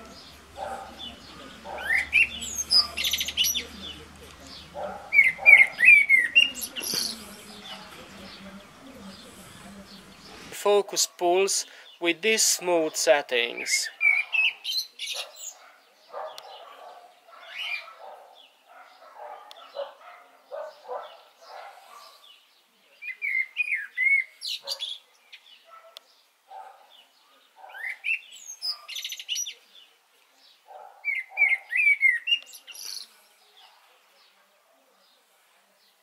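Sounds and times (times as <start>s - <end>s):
songbirds chirping and singing: 0.0s - 36.0s.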